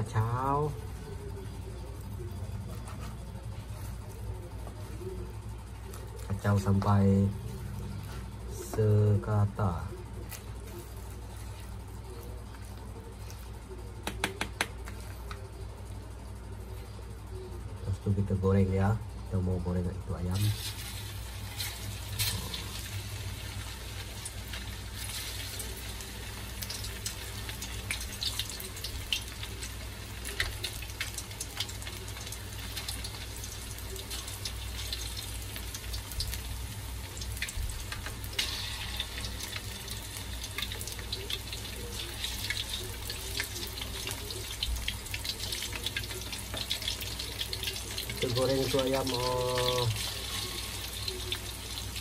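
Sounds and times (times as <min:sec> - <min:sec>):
chicken deep-frying in hot oil: 0:00.0 - 0:52.0.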